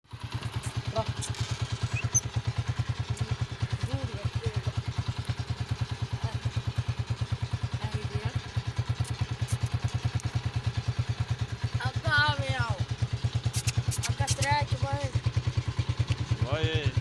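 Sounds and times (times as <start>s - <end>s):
small engine idling: 0.1s - 17.0s.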